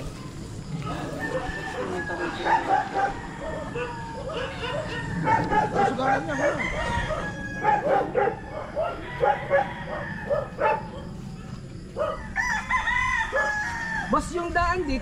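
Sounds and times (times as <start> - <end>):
roosters crowing and clucking: 0.0 - 15.0.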